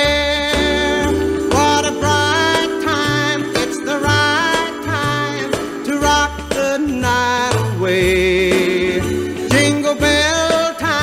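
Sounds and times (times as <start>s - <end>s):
bass line: 0.0s - 11.0s
person singing pop song: 0.0s - 11.0s
jingling bells: 0.6s - 11.0s.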